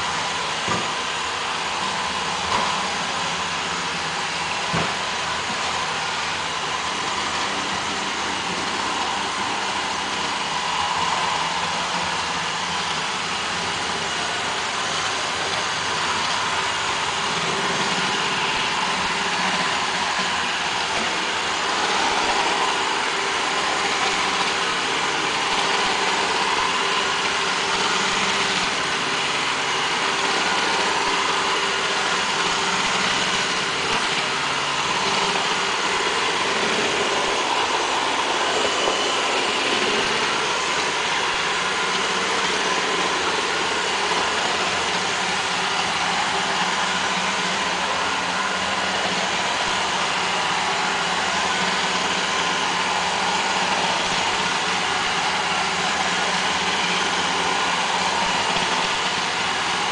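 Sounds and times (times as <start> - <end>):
robot vacuum whirring: 0.0 - 59.9.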